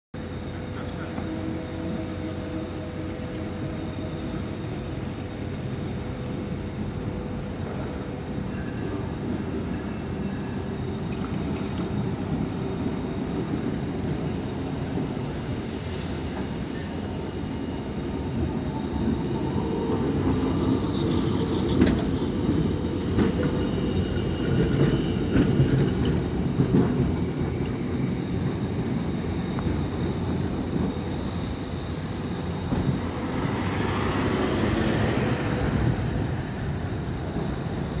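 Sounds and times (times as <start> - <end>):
tram wheels rumbling on rails: 0.2 - 38.0.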